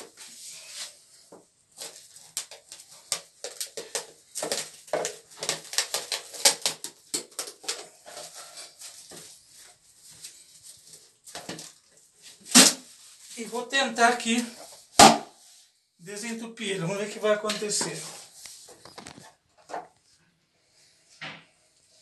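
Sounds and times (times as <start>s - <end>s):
cling film crinkling: 0.0s - 15.0s, 16.1s - 20.0s.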